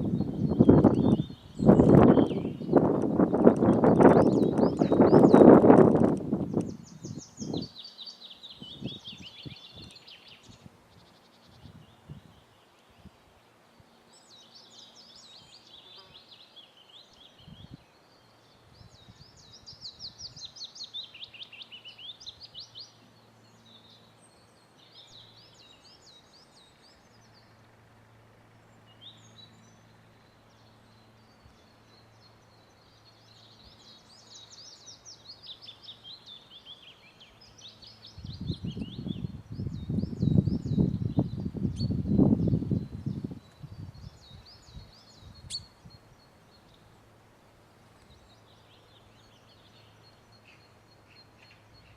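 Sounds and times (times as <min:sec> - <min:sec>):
songbird singing: 0:00.0 - 0:51.9.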